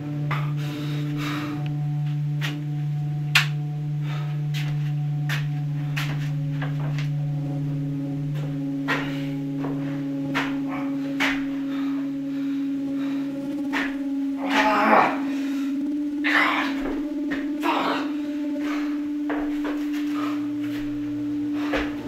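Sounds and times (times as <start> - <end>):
low humming drone: 0.0 - 22.0.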